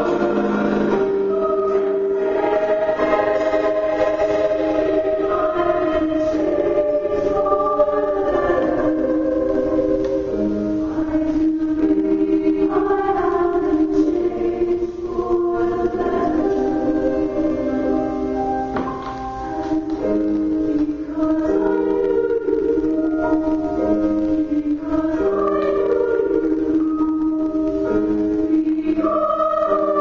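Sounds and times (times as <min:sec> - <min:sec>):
music with singing voices: 0:00.0 - 0:30.0.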